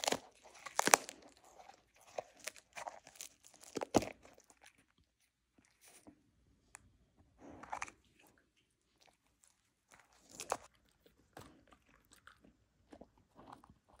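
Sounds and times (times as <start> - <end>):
dog chewing and crunching: 0.0 - 6.2, 7.3 - 14.0.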